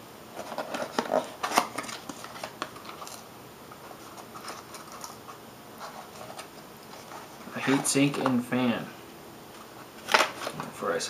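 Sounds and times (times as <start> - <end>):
cardboard rustling: 0.3 - 8.7, 9.6 - 10.8.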